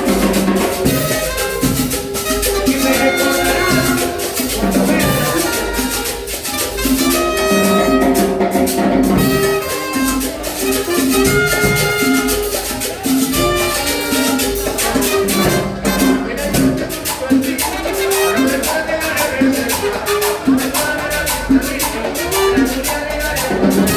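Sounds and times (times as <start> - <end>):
acoustic band playing cumbia: 0.0 - 23.9
steady percussion beat: 0.0 - 23.9.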